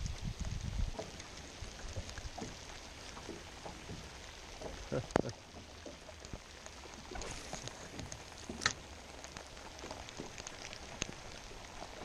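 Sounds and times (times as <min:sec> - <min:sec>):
light rain pattering on water: 0:00.0 - 0:12.0.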